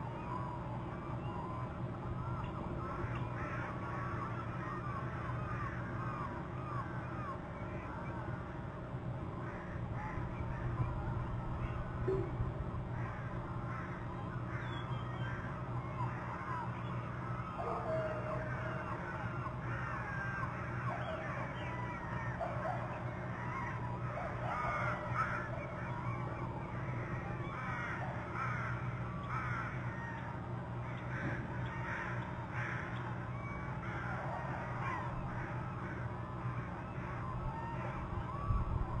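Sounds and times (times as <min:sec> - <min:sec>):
steady low hum: 0:00.0 - 0:39.0
wild birds calling: 0:00.0 - 0:39.0.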